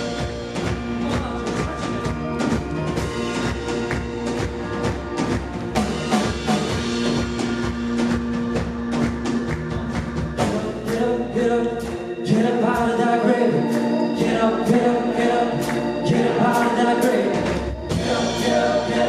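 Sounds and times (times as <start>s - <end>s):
drum kit steady rhythm: 0.0s - 19.0s
held instrument chords: 0.0s - 19.0s.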